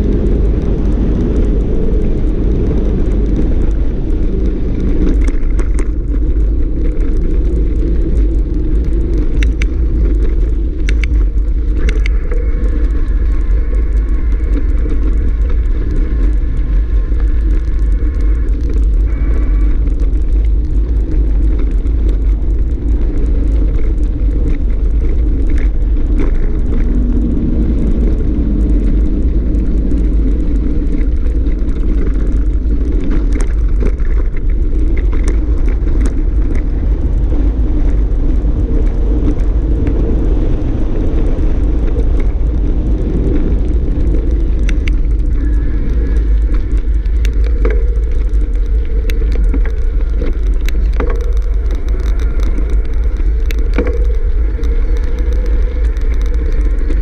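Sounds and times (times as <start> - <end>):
bike rolling over gravel: 0.0 - 57.0
wind buffeting microphone: 0.0 - 57.0
bike clicks and rattles: 0.1 - 57.0.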